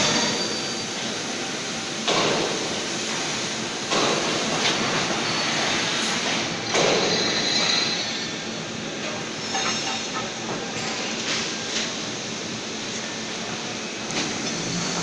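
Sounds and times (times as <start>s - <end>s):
factory machinery noise: 0.0s - 15.0s.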